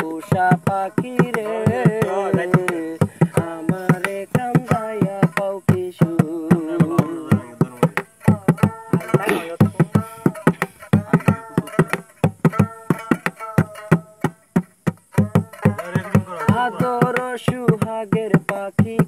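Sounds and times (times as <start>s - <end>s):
folk melody instrument: 0.0s - 19.0s
hand-drum beats: 0.0s - 19.0s.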